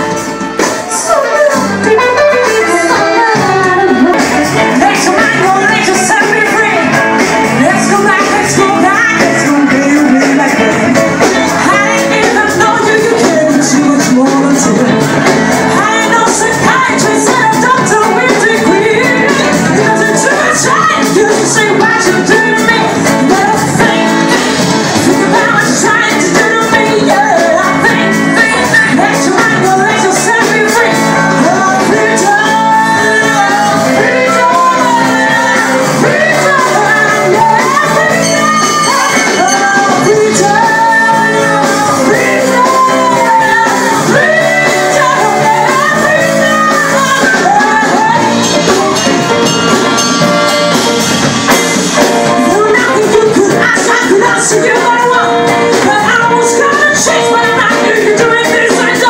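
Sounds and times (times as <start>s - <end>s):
live pop-rock band: 0.0s - 59.0s
person singing: 0.0s - 59.0s.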